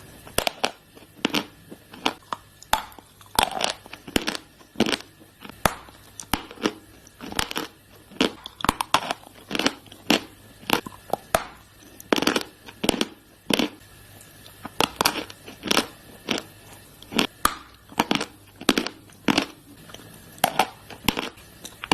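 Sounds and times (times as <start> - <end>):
chewing crunchy chalk: 0.1 - 21.9.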